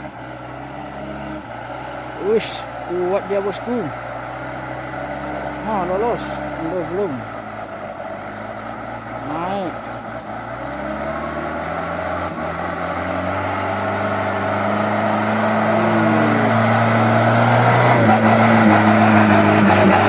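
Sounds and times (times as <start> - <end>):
truck diesel engine labouring: 0.0 - 20.0.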